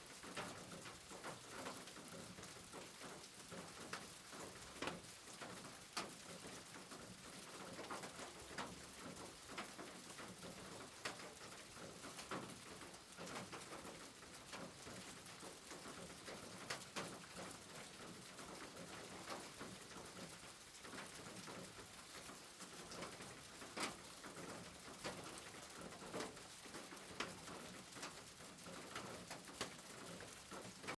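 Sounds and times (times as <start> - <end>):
rain pattering on roof: 0.0 - 31.0.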